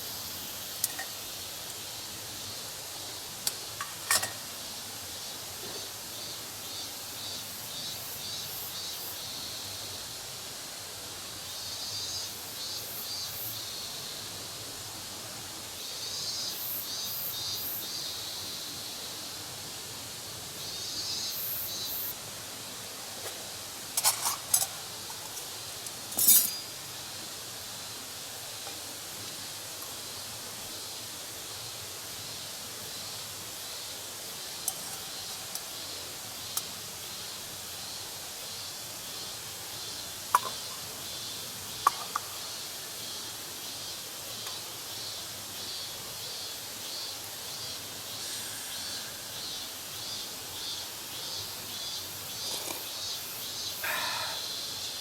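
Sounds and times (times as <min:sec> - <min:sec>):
insects chirping: 0:00.0 - 0:14.8, 0:15.8 - 0:55.0
outdoor hiss: 0:00.0 - 0:55.0.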